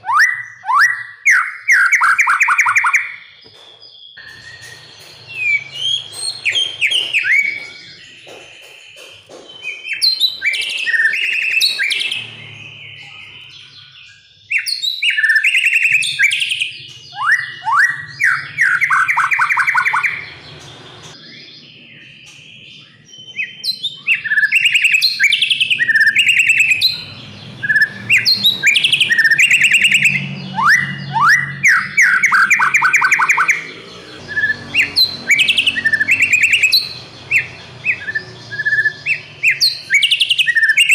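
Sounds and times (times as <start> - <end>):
songbird whistling and trilling: 0.0 - 40.9.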